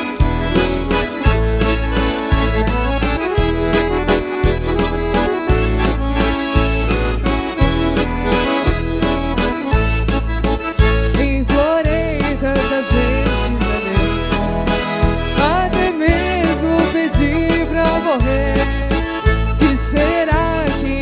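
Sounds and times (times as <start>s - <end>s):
accordion melody: 0.0s - 21.0s
bass notes and percussion beat: 0.0s - 21.0s.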